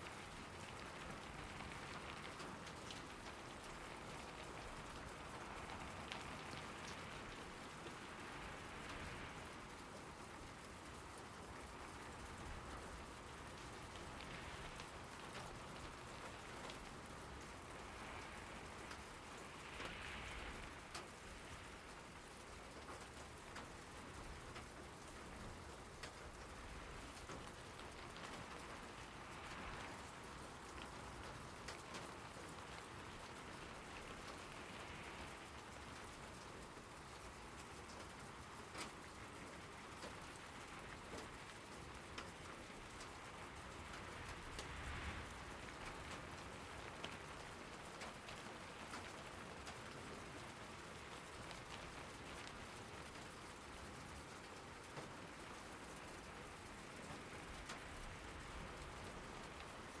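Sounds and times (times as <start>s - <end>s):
rain falling: 0.0s - 60.0s.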